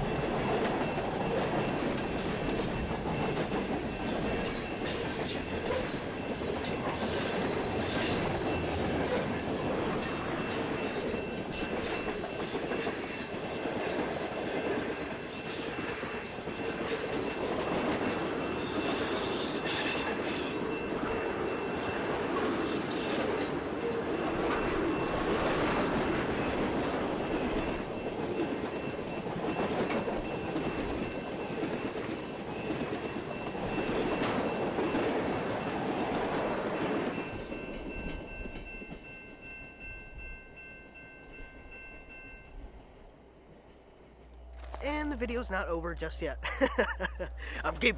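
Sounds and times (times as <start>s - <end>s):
freight train rumble: 0.0s - 47.9s.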